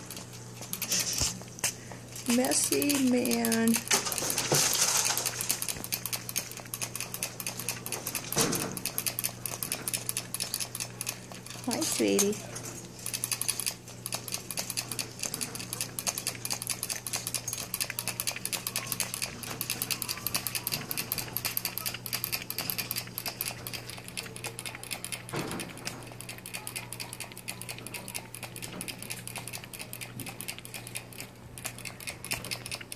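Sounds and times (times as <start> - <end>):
animal licking water bottle: 0.0 - 32.9.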